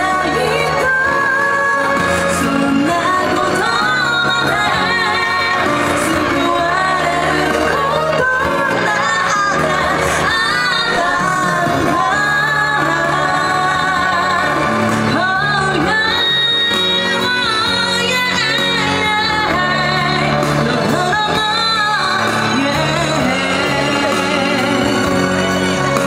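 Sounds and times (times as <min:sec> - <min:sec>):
amplified pop backing music: 0:00.0 - 0:26.0
woman singing into microphone: 0:00.0 - 0:26.0.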